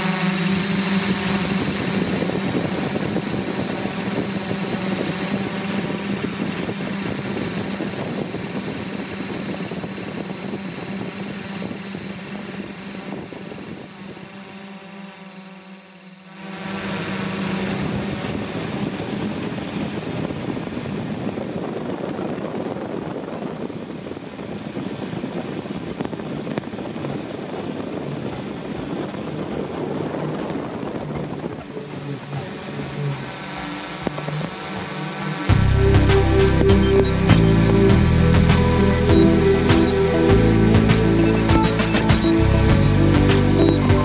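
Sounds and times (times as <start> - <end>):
drone motors humming and whining: 0.0 - 44.0.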